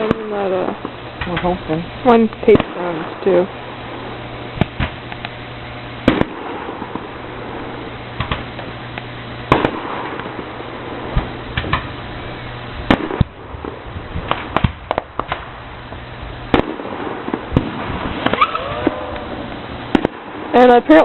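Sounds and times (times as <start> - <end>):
background rumble: 0.0 - 21.0
fireworks bangs and crackles: 0.0 - 21.0.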